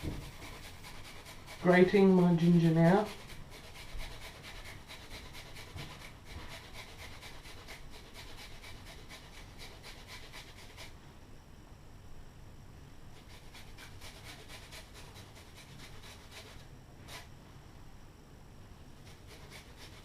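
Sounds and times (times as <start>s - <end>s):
ginger rasping on a hand grater: 0.0s - 11.0s, 13.2s - 17.3s, 19.0s - 20.0s.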